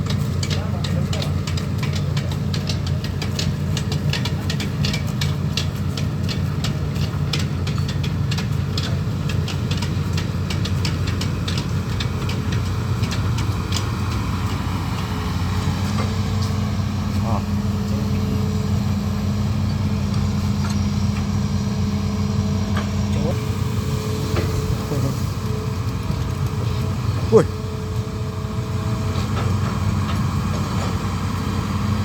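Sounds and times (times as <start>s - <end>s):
diesel engine running: 0.0s - 32.0s
rapid irregular clicks: 0.0s - 32.0s.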